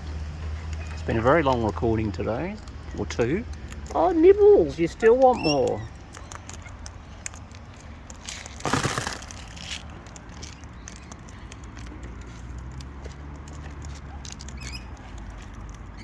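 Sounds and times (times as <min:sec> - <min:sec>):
parrots pecking and cracking seed: 0:00.1 - 0:16.0.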